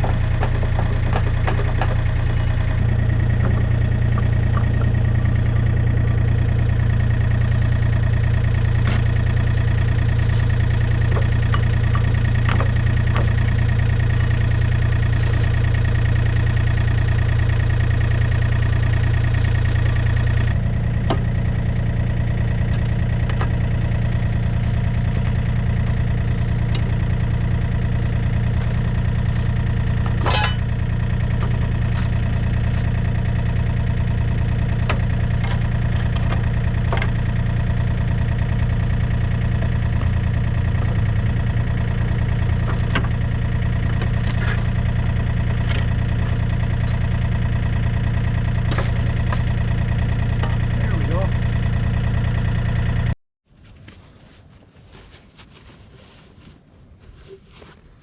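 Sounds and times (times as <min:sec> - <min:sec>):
excavator diesel engine running: 0:00.0 - 0:53.2.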